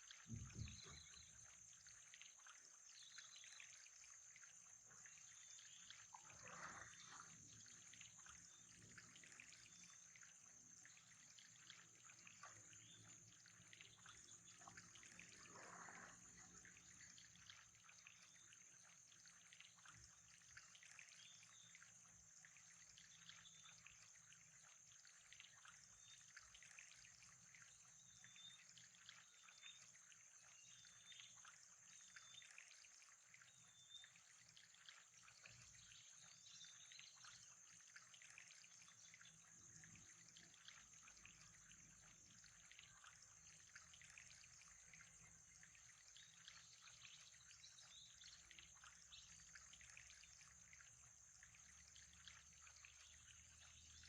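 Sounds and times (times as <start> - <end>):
faint trickling water: 0.0 - 54.0.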